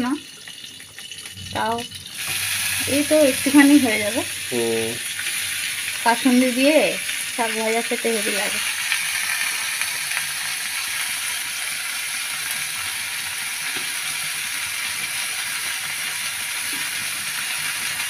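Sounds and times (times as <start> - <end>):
greens sizzling in oil: 0.0 - 18.0.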